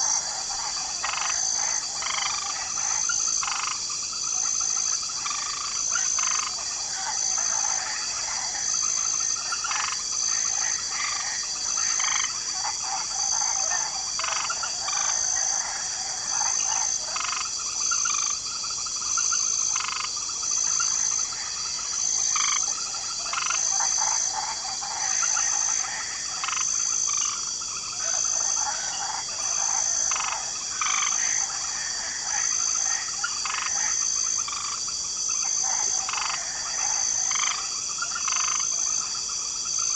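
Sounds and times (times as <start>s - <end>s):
crickets droning: 0.0s - 39.9s
frogs croaking and trilling: 0.0s - 39.9s.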